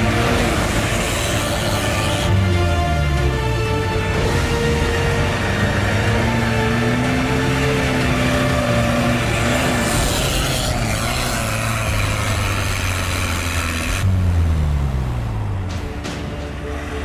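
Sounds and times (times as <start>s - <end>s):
off-road vehicle engine under load: 0.0s - 17.0s
tyres churning sand: 0.0s - 17.0s.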